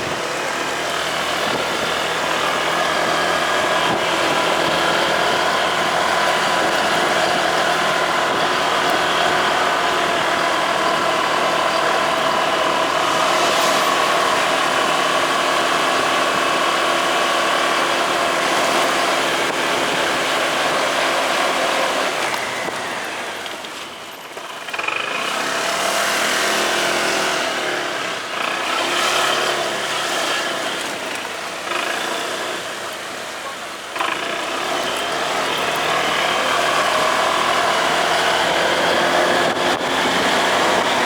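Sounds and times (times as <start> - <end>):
motorcycle engine running: 0.0 - 23.5, 27.6 - 41.0.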